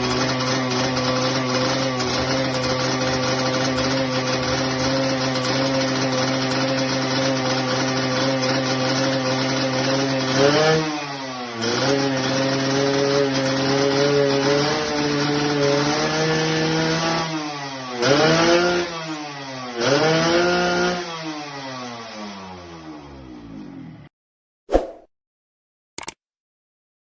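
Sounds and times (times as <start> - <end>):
two-stroke motorcycle engine revving: 0.0 - 24.1.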